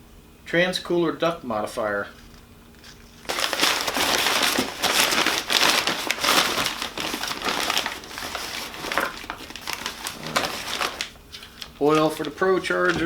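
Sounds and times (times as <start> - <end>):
plastic bag crinkling: 2.1 - 13.0.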